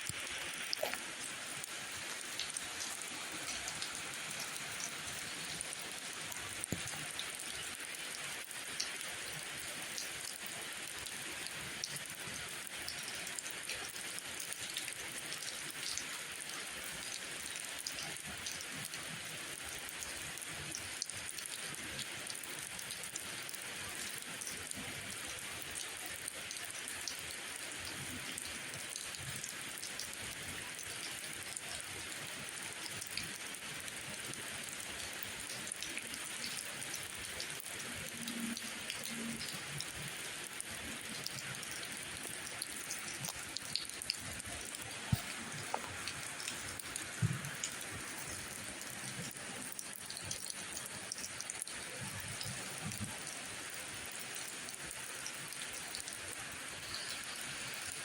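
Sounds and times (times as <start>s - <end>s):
raindrops ticking on surfaces: 0.0s - 58.0s
steady rain hiss: 0.0s - 58.0s.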